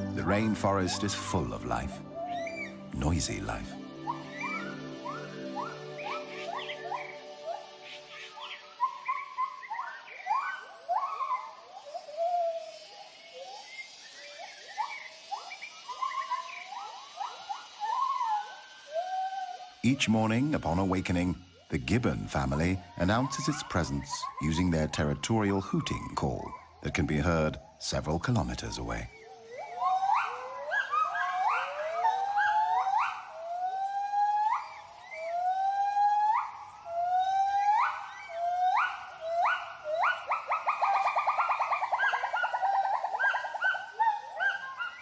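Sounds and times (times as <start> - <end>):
faint high drone: 0.0 - 45.0
gibbons hooting: 0.0 - 45.0.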